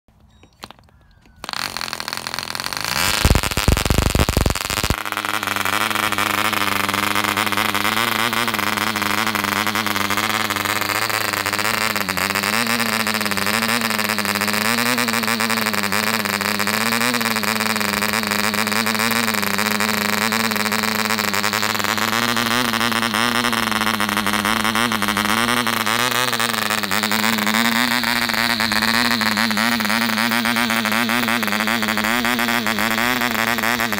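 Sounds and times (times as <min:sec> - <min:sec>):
model engine running: 0:00.4 - 0:33.9
loud rumbling: 0:01.5 - 0:33.9.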